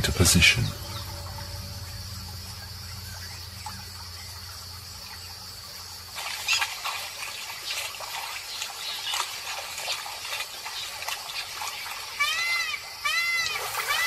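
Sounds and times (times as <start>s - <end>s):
high insect drone: 0.0s - 14.0s
splashing in shallow water: 0.0s - 14.0s.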